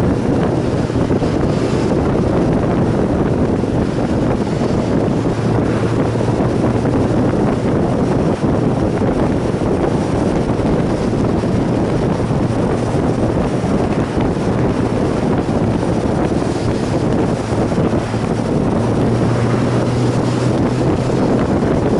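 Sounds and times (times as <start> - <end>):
motorcycle engine hum: 0.0 - 21.9
wind noise on microphone: 0.0 - 21.9.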